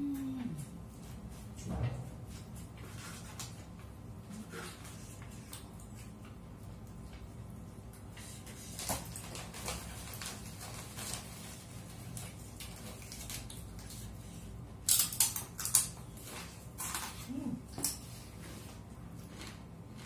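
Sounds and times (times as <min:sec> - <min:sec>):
food handling clicks and rustles: 0:02.3 - 0:20.0.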